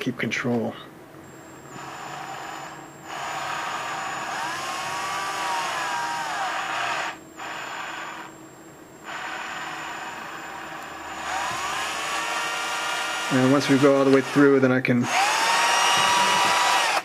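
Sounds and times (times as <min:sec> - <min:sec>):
cordless drill cutting plastic: 0:01.7 - 0:08.3, 0:09.0 - 0:17.0.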